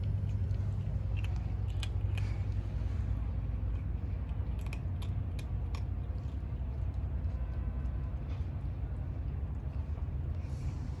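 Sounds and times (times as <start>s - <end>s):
kittens crunching food: 0.0s - 11.0s
steady low rumble: 0.0s - 11.0s.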